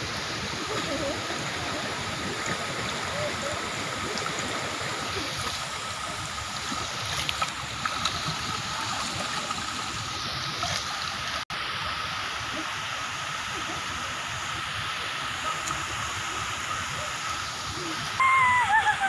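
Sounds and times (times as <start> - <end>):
water spilling into pool: 0.0 - 19.0.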